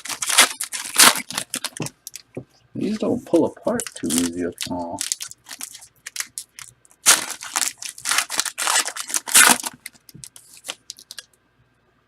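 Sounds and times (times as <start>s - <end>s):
foil wrappers crinkling and tearing: 0.0s - 11.2s.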